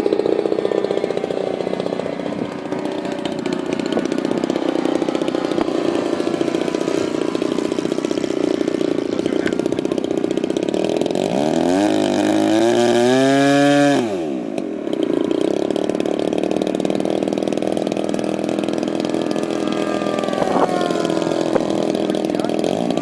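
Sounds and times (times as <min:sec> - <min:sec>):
model aircraft engines buzzing: 0:00.0 - 0:23.0.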